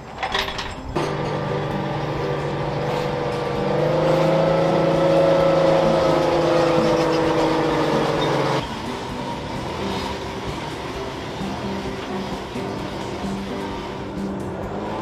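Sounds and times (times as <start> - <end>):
motor droning hum: 1.0 - 15.0.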